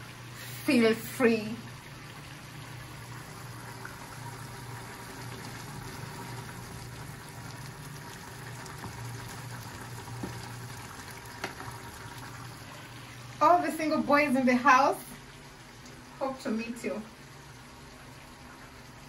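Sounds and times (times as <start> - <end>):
curry bubbling in a pan: 0.0 - 19.0.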